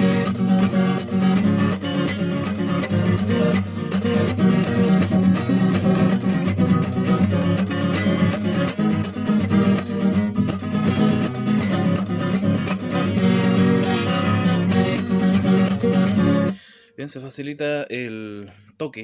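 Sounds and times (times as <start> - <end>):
strummed string instrument: 0.0 - 16.6.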